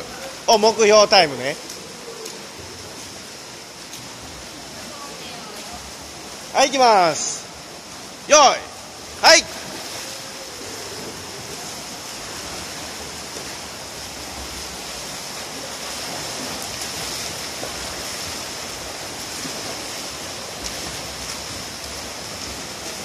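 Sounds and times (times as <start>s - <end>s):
swimmers splashing: 0.0s - 23.0s.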